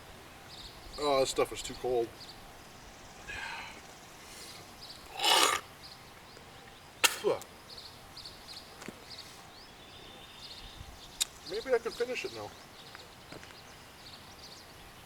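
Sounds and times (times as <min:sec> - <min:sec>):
faint insect chirps: 0:00.0 - 0:15.0.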